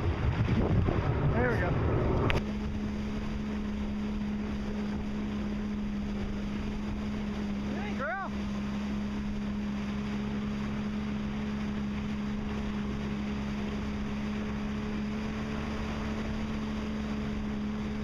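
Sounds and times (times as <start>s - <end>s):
personal watercraft engine running: 0.0s - 18.0s.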